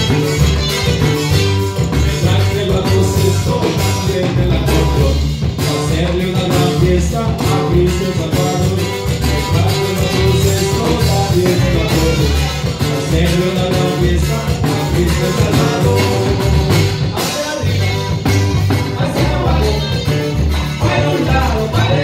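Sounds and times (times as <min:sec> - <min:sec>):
accordion: 0:00.0 - 0:22.0
live band playing: 0:00.0 - 0:22.0
person singing: 0:01.9 - 0:22.0.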